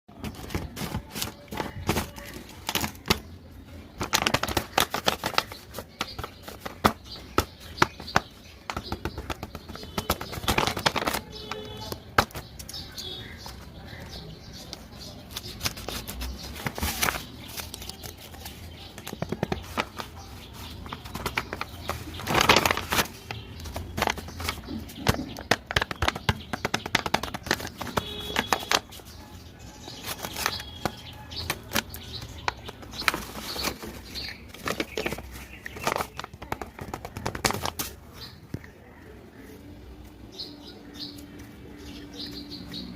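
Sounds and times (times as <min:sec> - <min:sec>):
plastic packaging crinkling: 0:00.2 - 0:03.3, 0:04.0 - 0:12.8, 0:15.2 - 0:38.0.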